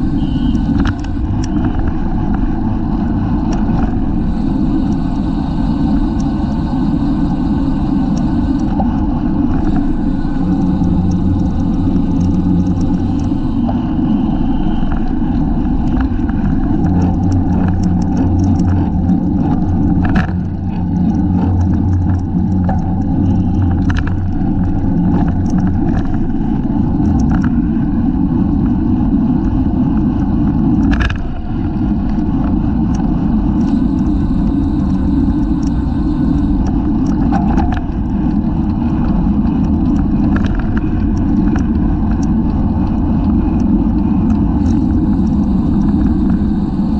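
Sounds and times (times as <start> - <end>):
bicycle clicks and rattles: 0.0 - 46.9
road rumble: 0.0 - 46.9.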